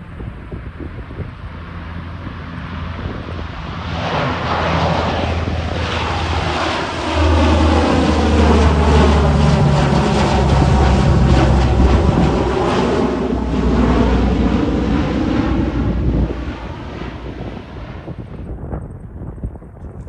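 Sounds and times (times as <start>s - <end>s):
turboprop aircraft engines droning: 0.0s - 20.0s.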